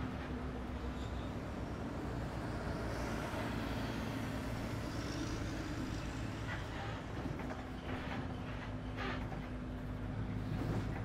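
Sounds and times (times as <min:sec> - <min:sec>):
bus engine hum: 0:00.0 - 0:11.0
road noise: 0:00.0 - 0:11.0.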